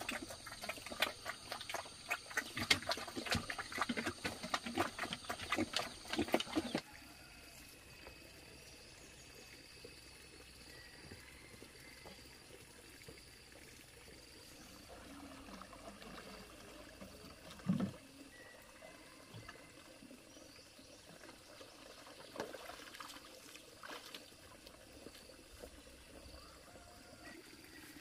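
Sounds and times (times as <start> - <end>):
water trickling and pouring: 0.0 - 28.0.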